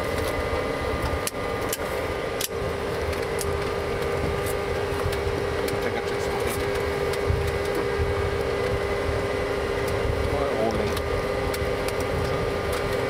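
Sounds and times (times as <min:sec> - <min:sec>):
jet engine hum in cockpit: 0:00.0 - 0:13.0.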